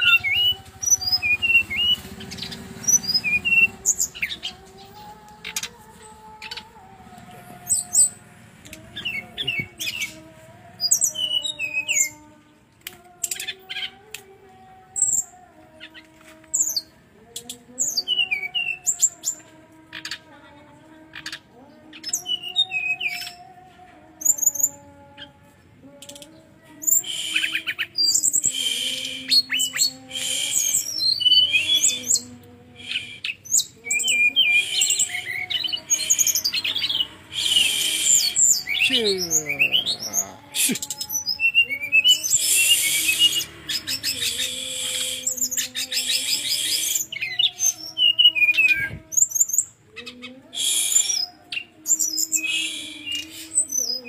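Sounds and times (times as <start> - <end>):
bird singing chirps and trills: 0.0 - 12.3, 13.0 - 20.3, 21.0 - 23.6, 24.2 - 54.0.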